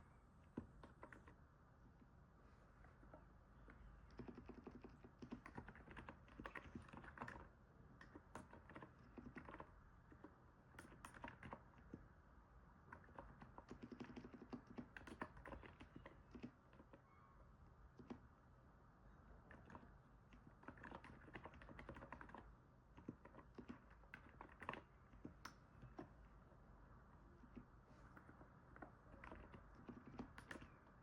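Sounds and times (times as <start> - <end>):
soft keyboard typing: 0.4 - 12.1, 12.8 - 18.5, 19.2 - 31.0.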